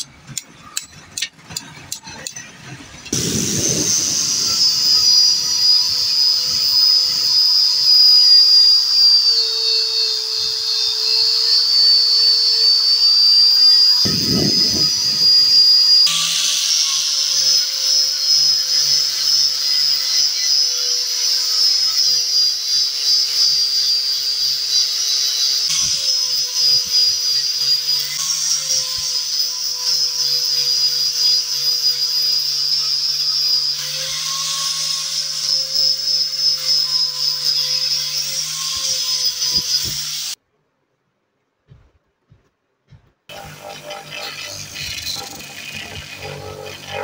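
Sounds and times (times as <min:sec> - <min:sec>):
angle grinder grinding metal: 0:00.0 - 0:40.4, 0:43.3 - 0:47.0.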